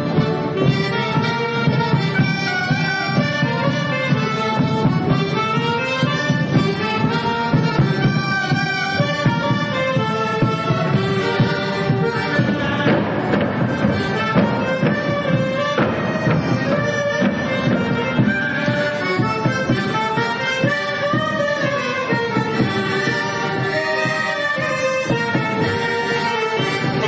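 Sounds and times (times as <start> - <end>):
folk dance music: 0.0 - 27.0.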